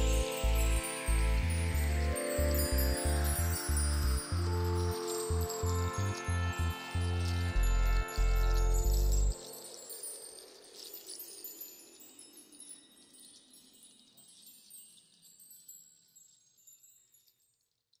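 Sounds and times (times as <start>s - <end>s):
chimes tinkling: 0.0s - 17.9s.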